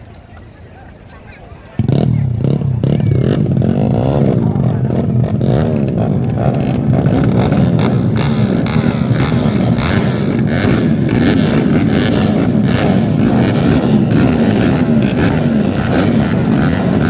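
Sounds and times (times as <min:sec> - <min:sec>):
racing motorcycles revving: 0:00.0 - 0:17.0.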